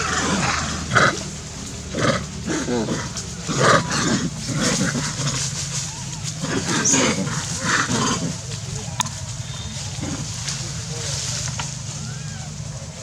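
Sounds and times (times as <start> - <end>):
monkeys calling: 0.0 - 13.0.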